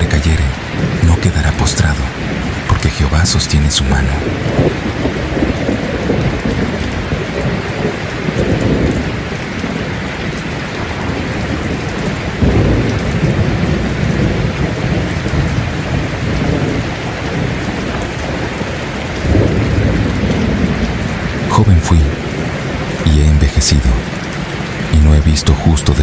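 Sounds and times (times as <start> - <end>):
rolling thunder: 0.0 - 23.1
steady rain: 0.0 - 26.0.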